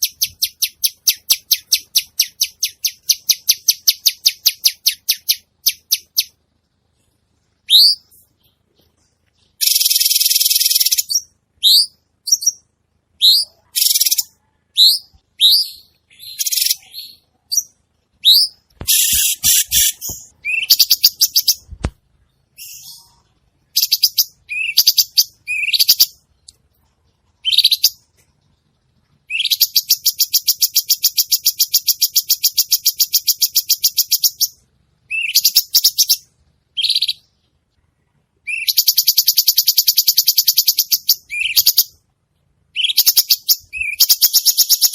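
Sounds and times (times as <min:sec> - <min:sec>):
bulbul singing: 0:00.0 - 0:06.4, 0:07.6 - 0:26.6, 0:27.2 - 0:28.2, 0:29.3 - 0:37.4, 0:38.4 - 0:42.0, 0:42.7 - 0:44.9.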